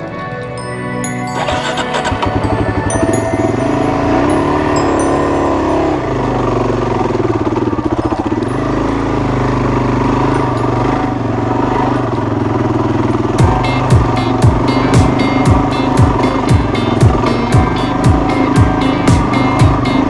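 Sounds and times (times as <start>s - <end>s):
motorcycle engine revving: 1.3s - 20.0s.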